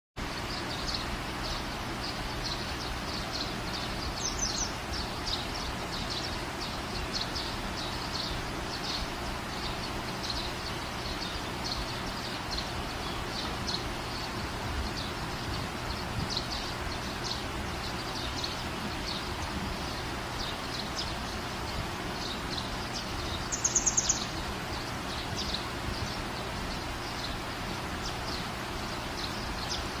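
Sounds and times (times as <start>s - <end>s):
birds chirping: 0.2s - 30.0s
steady outdoor hiss: 0.2s - 30.0s.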